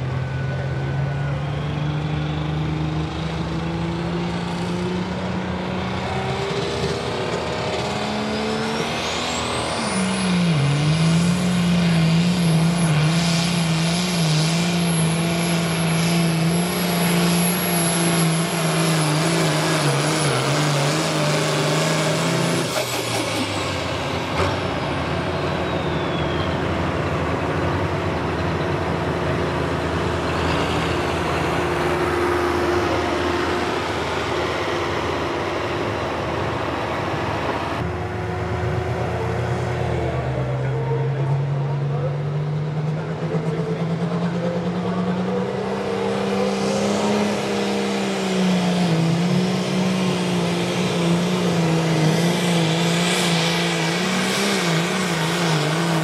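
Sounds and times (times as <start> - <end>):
high turbo whine: 0.0 - 56.0
tractor diesel engine pulling: 0.0 - 56.0.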